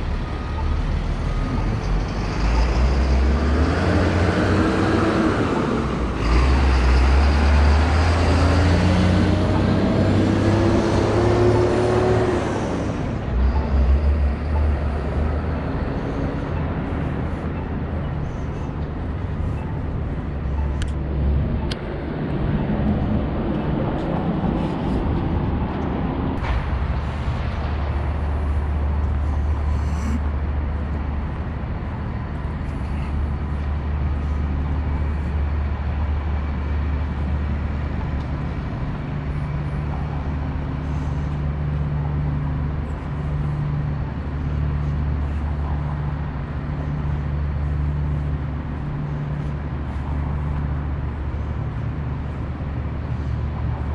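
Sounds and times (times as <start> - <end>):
traffic rumble: 0.0 - 53.9.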